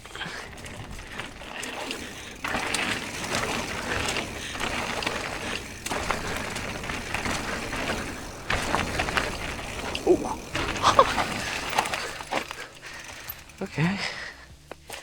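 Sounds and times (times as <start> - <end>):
bike tyres on loose dirt: 0.0 - 15.0.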